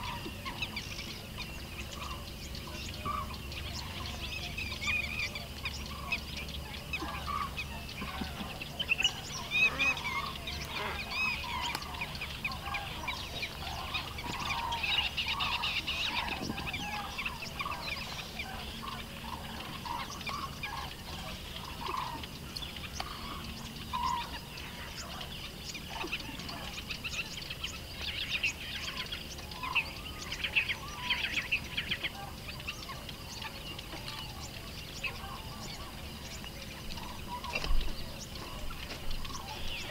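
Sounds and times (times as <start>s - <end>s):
birds chirping high calls: 0.0s - 39.9s
lower bird calls: 0.0s - 39.9s.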